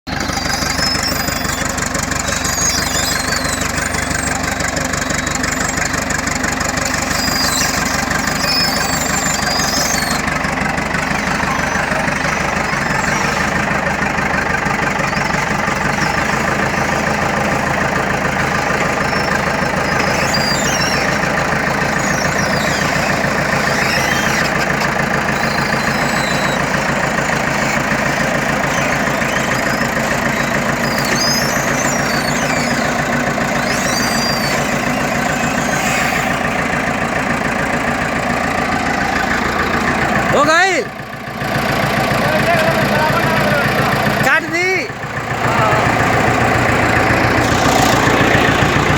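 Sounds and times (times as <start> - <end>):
thin high squeaks: 0.1 - 40.9, 45.6 - 48.9
bulldozer diesel engine knocking: 0.1 - 48.9.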